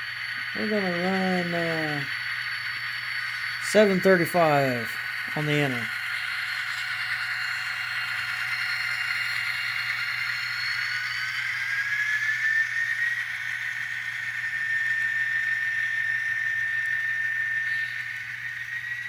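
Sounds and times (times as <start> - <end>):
model train motor whine: 0.0 - 19.0.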